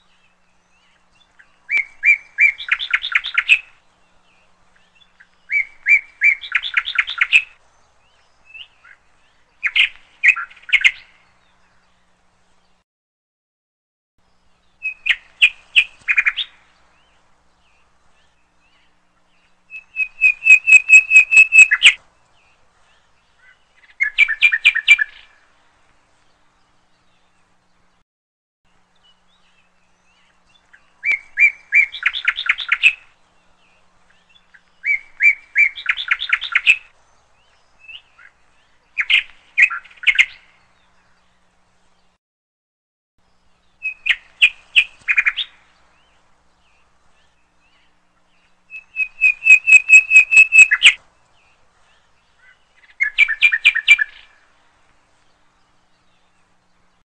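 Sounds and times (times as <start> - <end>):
songbird chirping: 0.0 - 12.8, 14.2 - 28.0, 28.7 - 42.2, 43.2 - 57.0.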